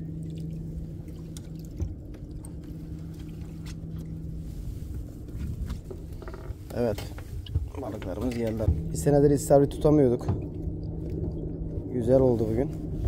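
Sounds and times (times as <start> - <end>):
low hum: 0.0 - 13.0
water lapping against boat: 0.0 - 13.0.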